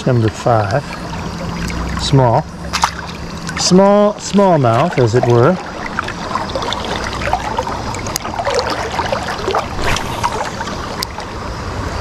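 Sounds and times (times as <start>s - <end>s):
small water splashes: 0.0s - 11.6s
creek water running: 0.0s - 12.0s.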